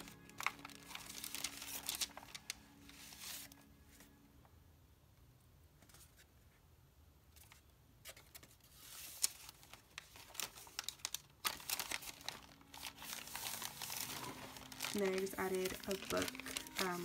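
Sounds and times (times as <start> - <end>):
paper rustling and crinkling: 0.0 - 4.0, 7.4 - 17.0.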